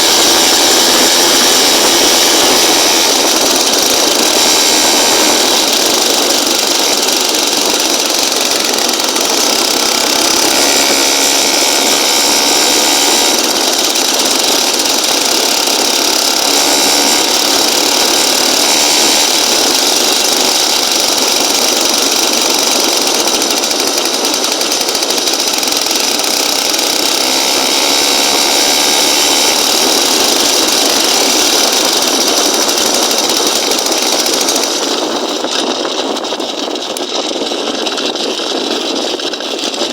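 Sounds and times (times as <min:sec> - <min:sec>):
motorized bicycle engine running: 0:00.0 - 0:39.9.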